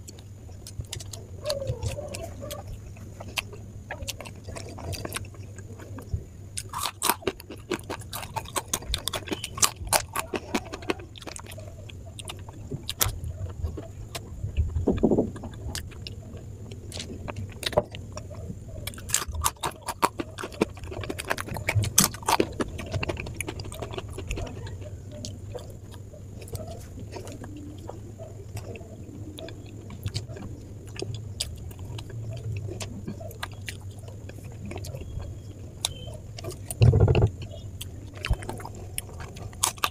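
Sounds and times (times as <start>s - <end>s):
chewing sweets: 0.0s - 39.9s
crisp crunching of snack: 0.0s - 39.9s
faint low hum: 0.0s - 39.9s.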